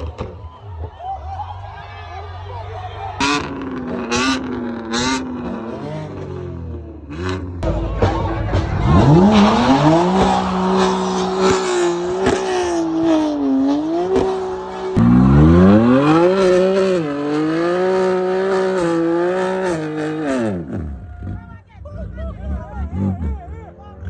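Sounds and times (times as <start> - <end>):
car engine revving: 3.2 - 24.0.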